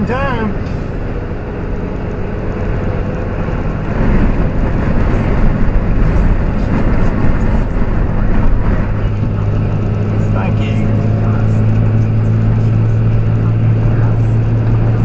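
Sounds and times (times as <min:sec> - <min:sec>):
road noise: 0:00.0 - 0:15.0
vehicle engine running: 0:00.0 - 0:15.0.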